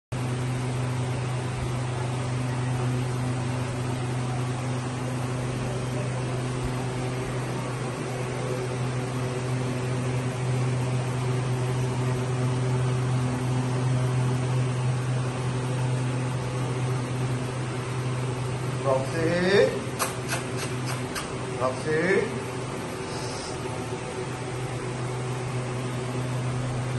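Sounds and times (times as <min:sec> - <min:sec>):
low mechanical hum: 0:00.1 - 0:26.9.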